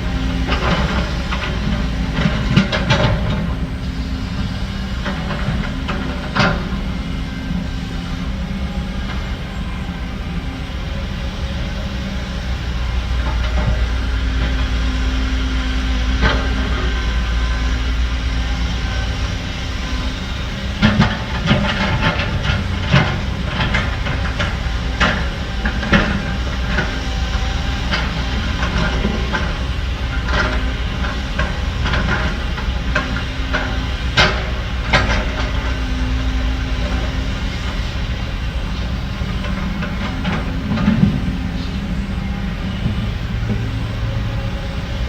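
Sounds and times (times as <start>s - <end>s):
diesel machinery engine drone: 0.0s - 45.0s.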